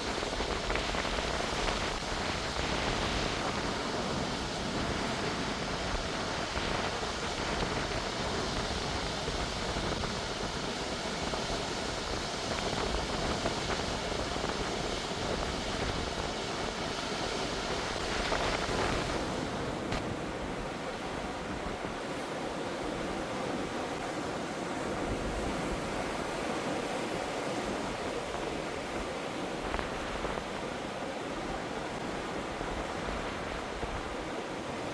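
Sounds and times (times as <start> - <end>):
ocean surf washing on shore: 0.0 - 34.9.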